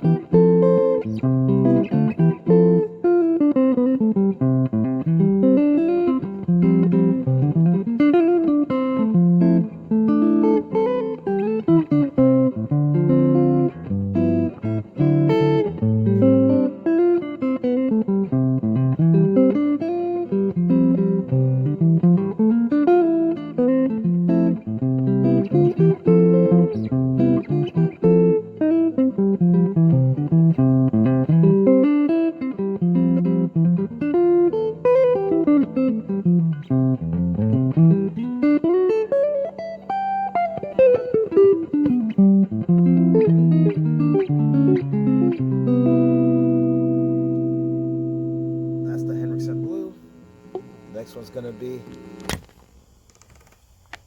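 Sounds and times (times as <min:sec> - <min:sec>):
clean electric guitar playing: 0:00.0 - 0:52.4.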